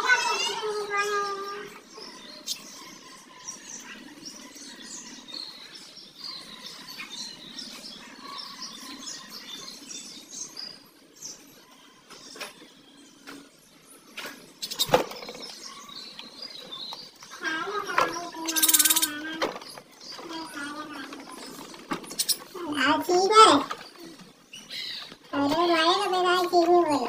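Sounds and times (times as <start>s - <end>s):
budgerigars chirping: 1.7s - 27.0s.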